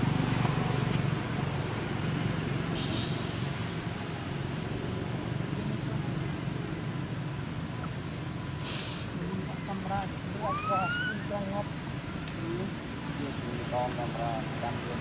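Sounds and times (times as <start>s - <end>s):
low outdoor rumble: 0.0s - 2.8s, 3.4s - 15.0s.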